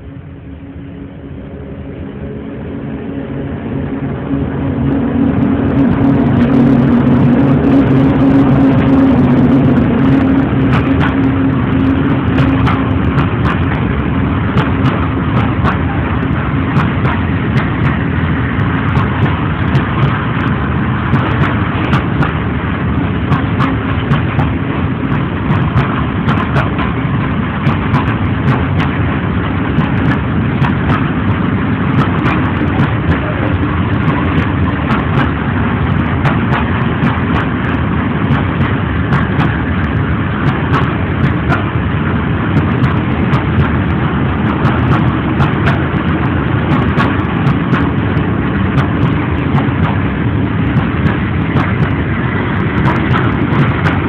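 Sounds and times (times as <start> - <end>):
electric locomotive humming: 0.0 - 54.0
freight wagons rumbling: 0.0 - 54.0
train wheel clacks: 4.1 - 54.0.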